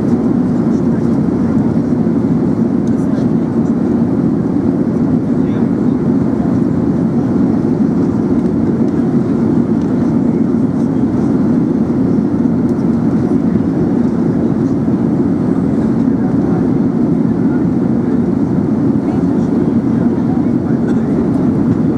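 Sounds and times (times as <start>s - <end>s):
airplane cabin engine rumble: 0.0s - 21.9s.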